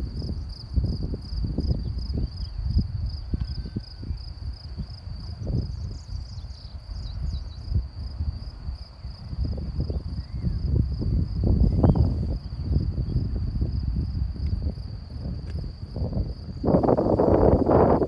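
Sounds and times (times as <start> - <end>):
high-pitched insect trill: 0.0 - 18.0
wind buffeting microphone: 0.0 - 18.0.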